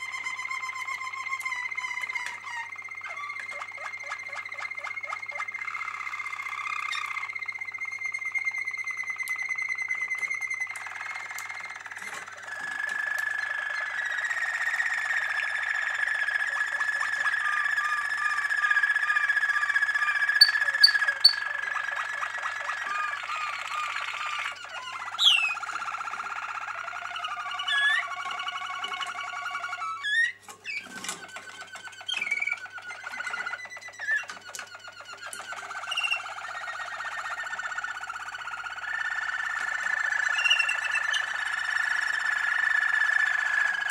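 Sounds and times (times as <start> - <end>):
canaries singing trills: 0.0 - 43.9.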